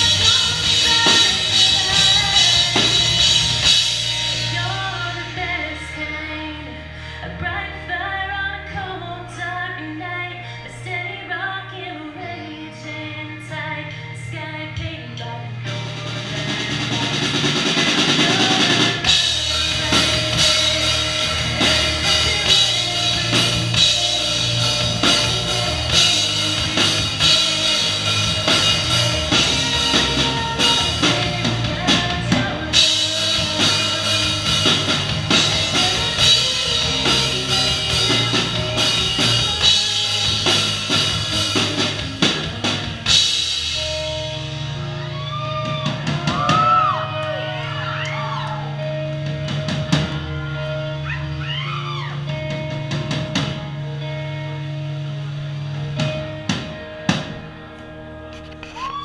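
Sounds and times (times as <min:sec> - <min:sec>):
rock drumming with cymbals: 0:00.0 - 0:08.0, 0:14.0 - 0:59.0
electric guitar: 0:00.0 - 0:59.0.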